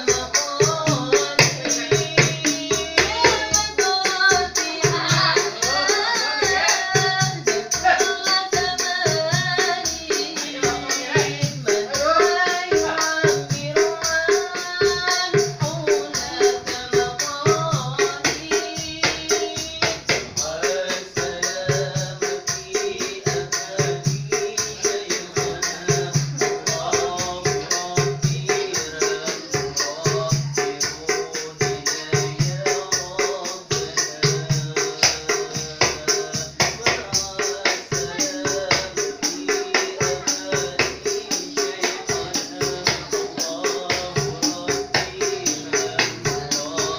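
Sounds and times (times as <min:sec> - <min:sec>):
jingling hand percussion: 0:00.0 - 0:46.9
low drum beat: 0:00.0 - 0:46.9
man singing: 0:00.0 - 0:46.9.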